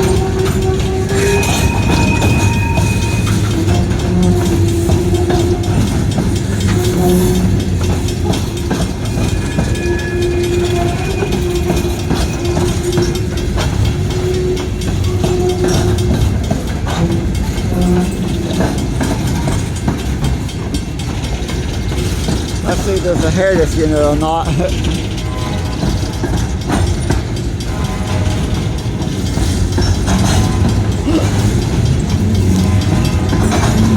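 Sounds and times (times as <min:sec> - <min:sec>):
train cars rumbling past: 0:00.0 - 0:33.9
wheel squeals: 0:00.0 - 0:33.9
wheels clattering over rail joints: 0:00.0 - 0:33.9.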